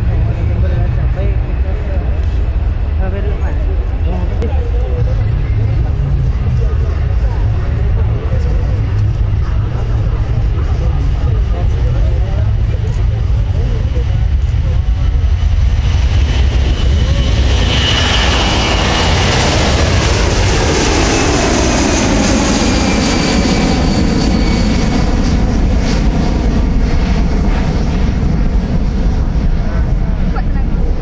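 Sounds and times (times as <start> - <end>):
jet aircraft roar: 0.0 - 31.0.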